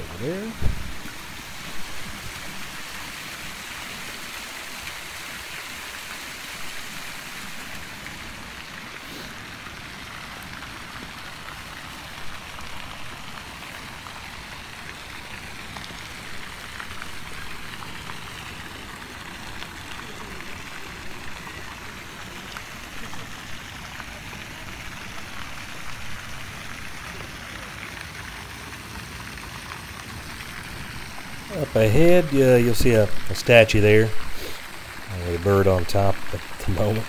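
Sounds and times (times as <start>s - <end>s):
fountain splashing into pond: 0.0s - 37.0s.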